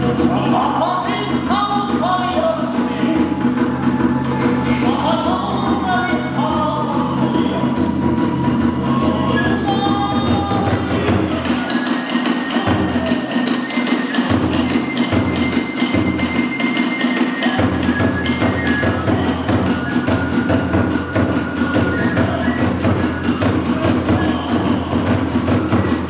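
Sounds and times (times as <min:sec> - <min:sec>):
fast drum beat: 0:00.0 - 0:26.0
hand cymbals: 0:00.0 - 0:26.0
held flute notes: 0:02.4 - 0:26.0.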